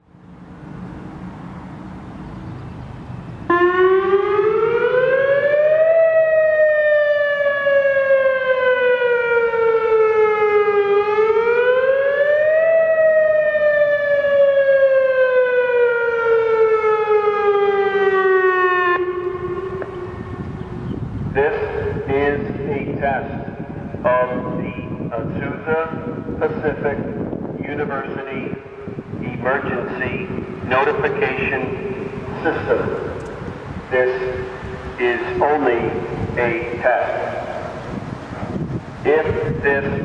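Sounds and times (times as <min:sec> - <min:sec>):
warning siren wailing: 0:03.0 - 0:40.0.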